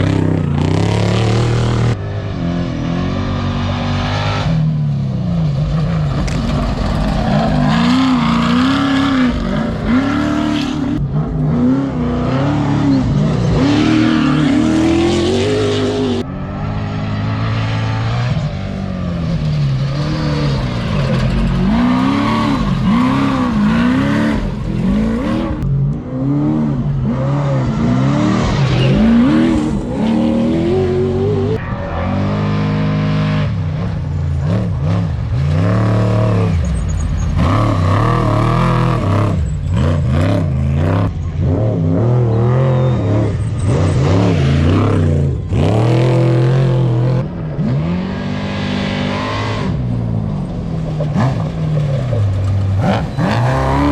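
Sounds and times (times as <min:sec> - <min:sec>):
race truck engines revving: 0:00.0 - 0:53.9.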